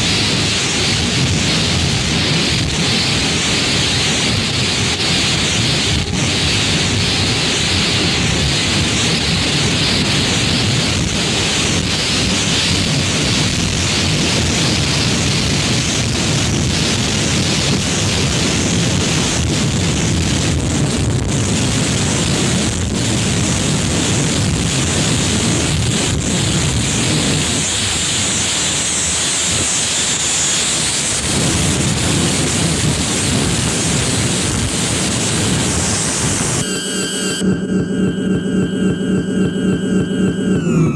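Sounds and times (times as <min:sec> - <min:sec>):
steady wash of noise: 0:00.0 - 0:40.9.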